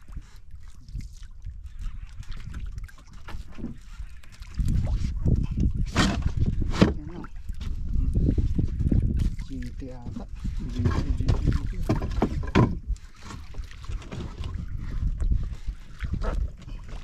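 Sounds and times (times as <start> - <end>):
water lapping against boat hull: 0.0 - 17.0
wind buffeting microphone: 0.0 - 17.0.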